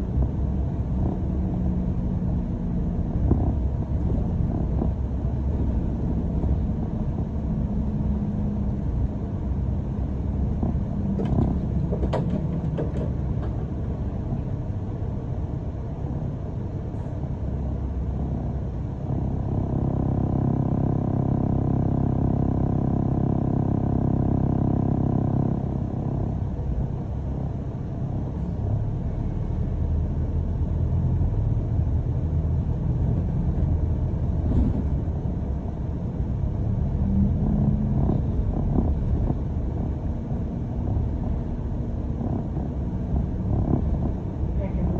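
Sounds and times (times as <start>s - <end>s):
bus engine rumble: 0.0s - 44.9s
droning hum: 0.0s - 44.9s.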